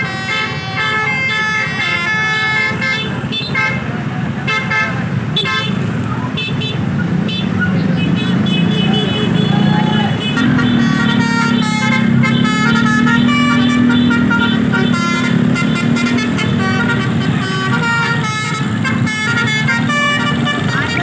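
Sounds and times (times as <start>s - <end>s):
bus engine drone: 0.0s - 21.0s
bus musical horn: 0.0s - 21.0s.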